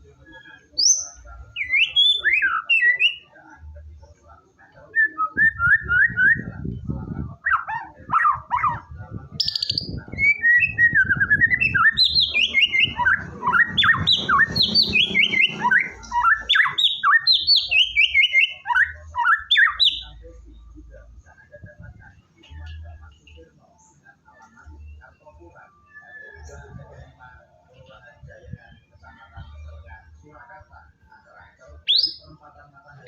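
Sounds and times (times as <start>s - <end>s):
bird singing varied song: 0.0s - 33.0s.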